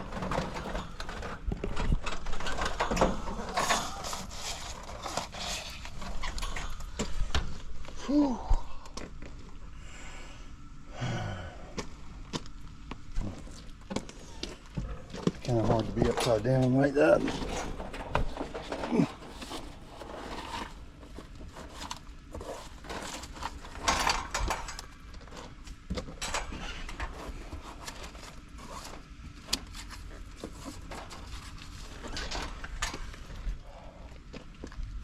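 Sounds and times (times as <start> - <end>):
hands and tools handling metal unit: 0.0 - 8.0, 13.2 - 33.6.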